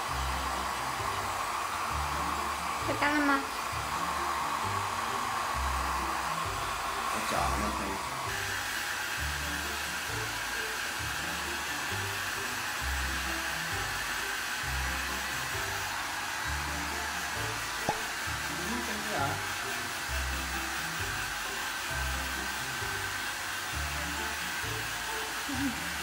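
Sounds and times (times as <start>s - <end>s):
background music with steady beat: 0.0s - 26.0s
hair dryer blowing: 0.0s - 26.0s.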